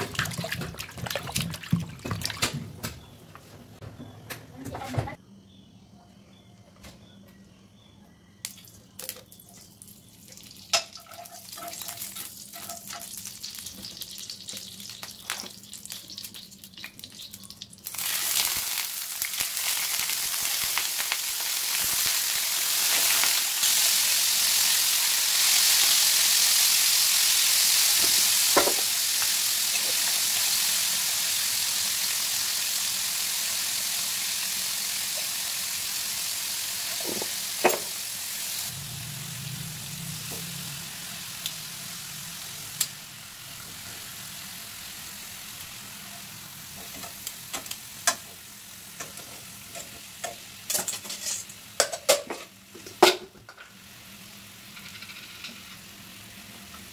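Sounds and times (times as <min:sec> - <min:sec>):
fat crackling in frying pan: 0:08.4 - 0:38.7, 0:39.9 - 0:56.9
chicken sizzling in hot oil: 0:10.3 - 0:56.9.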